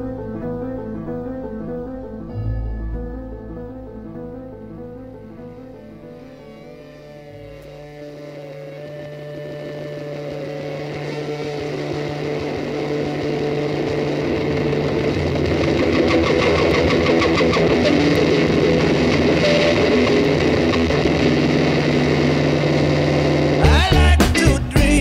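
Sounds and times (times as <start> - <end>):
music: 0.0 - 25.0.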